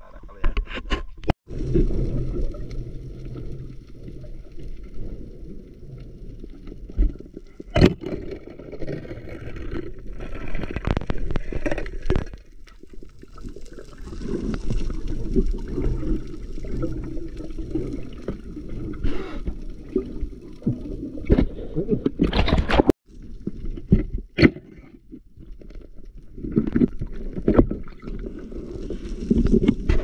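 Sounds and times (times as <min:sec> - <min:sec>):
underwater water gurgling: 0:01.5 - 0:30.0.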